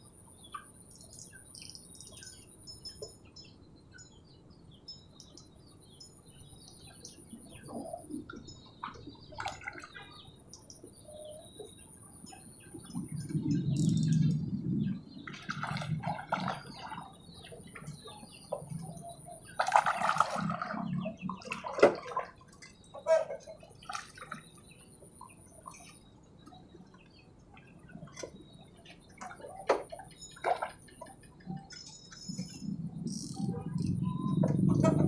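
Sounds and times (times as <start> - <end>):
water splashing and sloshing: 6.2 - 35.0.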